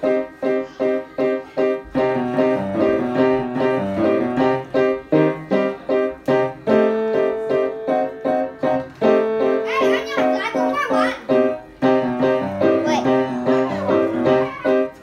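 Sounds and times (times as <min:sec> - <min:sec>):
piano chords and melody: 0:00.0 - 0:15.0.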